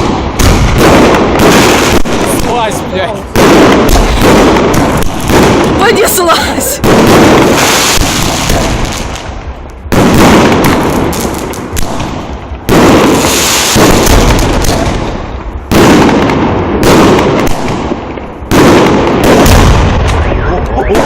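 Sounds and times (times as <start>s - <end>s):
crackling rumble: 0.0s - 21.0s
fireworks bangs: 0.0s - 21.0s.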